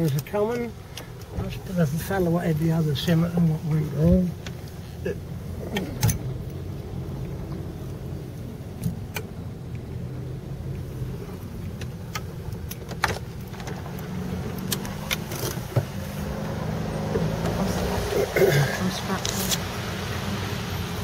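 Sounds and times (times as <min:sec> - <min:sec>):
car engine low hum: 0:00.0 - 0:21.0.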